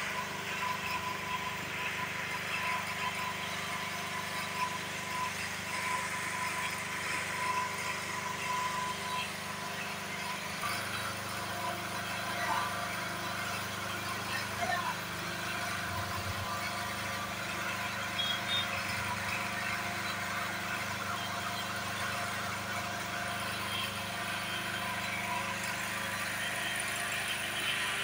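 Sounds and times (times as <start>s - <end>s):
low engine tone: 0.0s - 28.0s.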